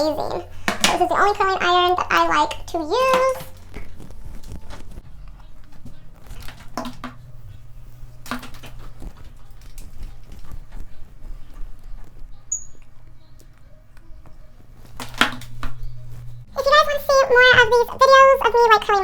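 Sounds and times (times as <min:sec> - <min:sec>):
hair rustling and clicks: 0:00.0 - 0:19.0
steady low hum: 0:00.0 - 0:19.0.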